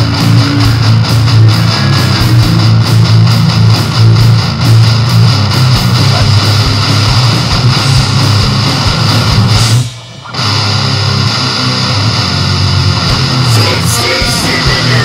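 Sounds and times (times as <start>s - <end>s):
loud guitar-driven rock music: 0.0s - 15.0s.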